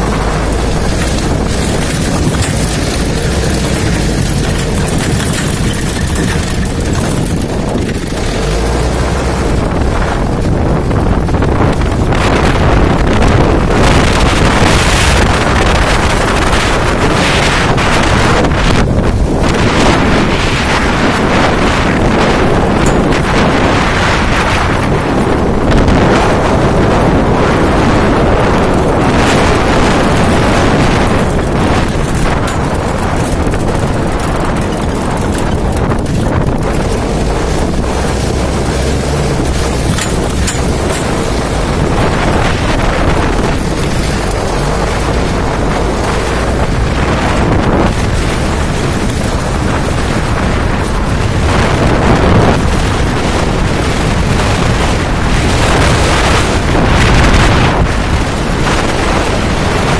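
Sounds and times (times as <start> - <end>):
jeep engine and rolling noise: 0.0 - 59.9
wind buffeting microphone: 0.0 - 59.9.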